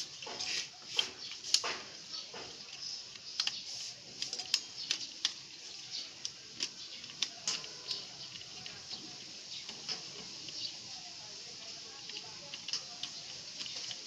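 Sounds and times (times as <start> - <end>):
computer parts clicking and tapping: 0.0 - 10.7, 11.9 - 14.0.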